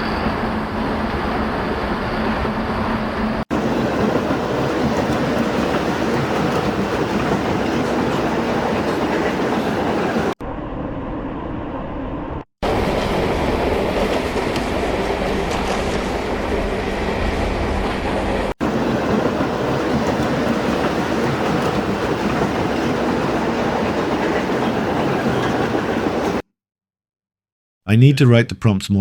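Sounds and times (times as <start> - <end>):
train rumbling with clickety-clack: 0.0 - 10.4, 12.4 - 26.4.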